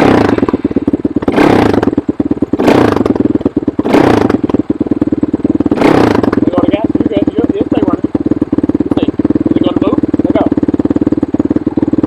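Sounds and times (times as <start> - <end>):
quad engine revving: 0.0 - 12.0.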